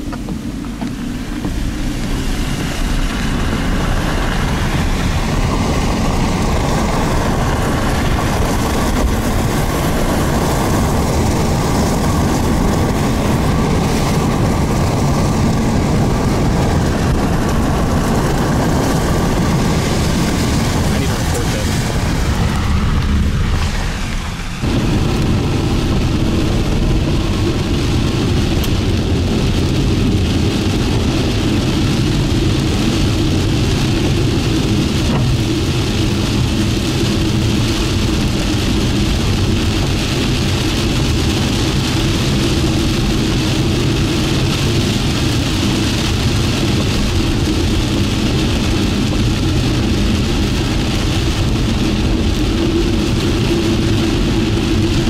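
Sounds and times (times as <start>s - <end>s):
rain drumming on a car: 0.0s - 55.0s
road and engine noise: 0.0s - 55.0s.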